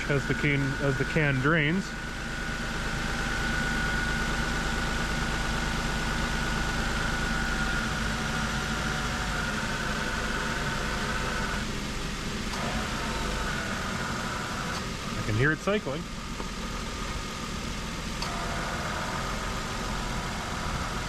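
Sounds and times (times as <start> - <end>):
ac compressor whine: 0.0 - 21.0
car engine idling: 0.0 - 21.0.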